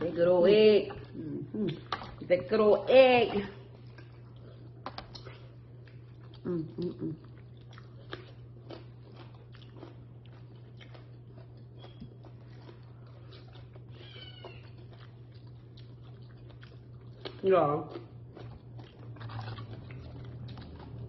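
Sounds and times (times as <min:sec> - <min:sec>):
steady low hum: 0:00.0 - 0:21.0
chewing with wet mouth clicks: 0:03.6 - 0:21.0.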